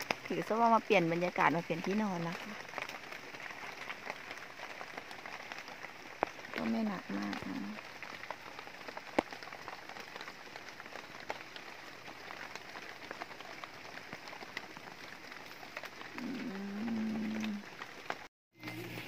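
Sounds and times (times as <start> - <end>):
light rain patter: 0.0 - 19.0.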